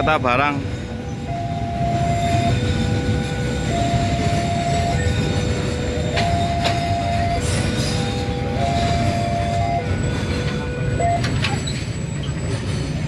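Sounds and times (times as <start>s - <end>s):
level crossing two-tone alarm: 0.0s - 11.7s
freight wagons rumbling past: 0.0s - 13.0s.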